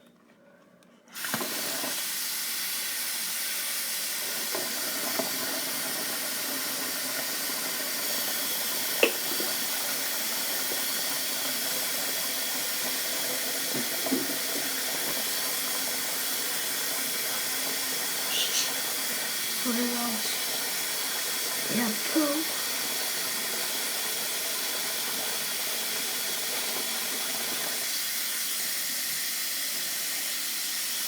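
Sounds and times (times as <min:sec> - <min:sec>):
sink faucet running: 0:01.1 - 0:31.0.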